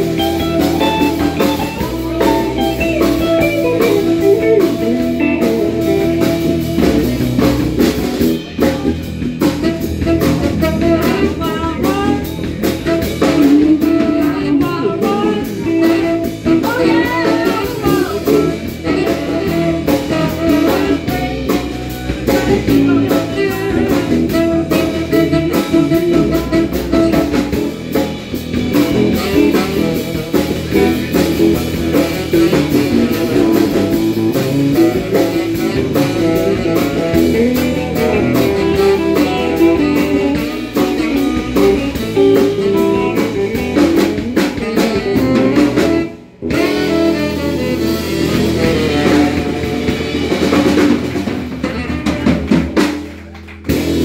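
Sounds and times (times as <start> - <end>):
live blues band playing: 0.0 - 54.0.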